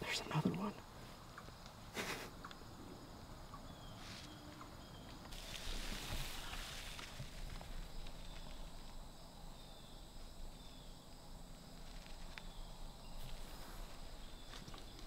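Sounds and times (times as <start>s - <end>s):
faint ticks and rustles: 0.0s - 2.7s, 3.5s - 15.0s
insects droning: 0.0s - 15.0s.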